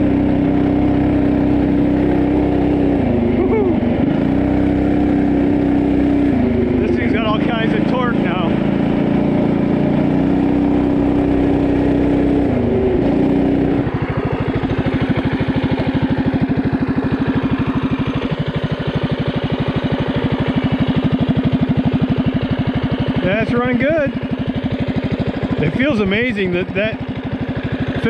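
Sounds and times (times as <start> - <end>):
mini bike engine running: 0.0 - 28.0.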